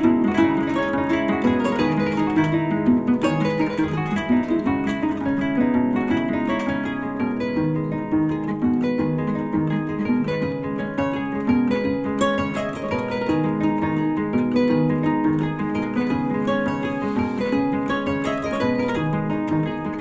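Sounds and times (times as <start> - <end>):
plucked string music: 0.0 - 20.0.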